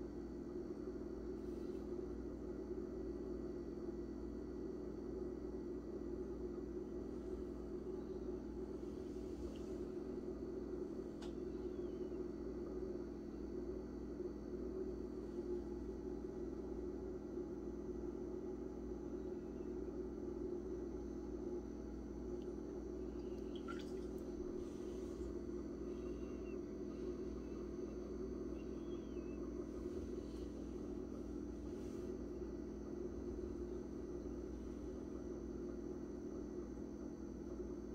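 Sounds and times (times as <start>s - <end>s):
low room hum: 0.0s - 37.9s.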